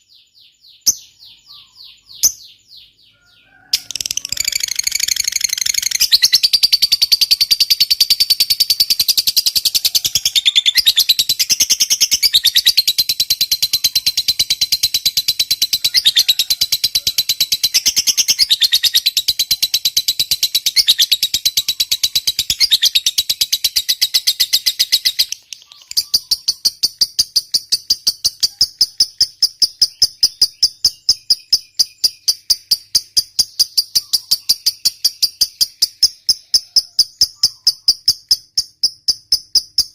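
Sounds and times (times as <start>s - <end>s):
lovebird trilling: 0.7s - 39.9s.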